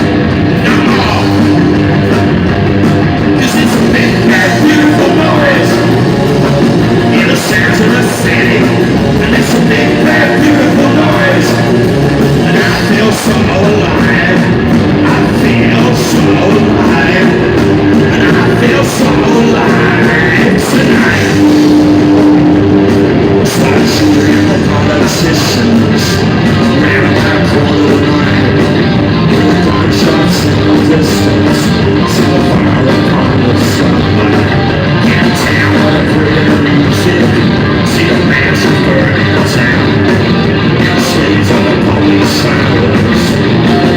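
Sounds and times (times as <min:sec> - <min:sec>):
live rock band playing: 0:00.0 - 0:43.9
person singing: 0:00.5 - 0:02.1, 0:03.3 - 0:43.9.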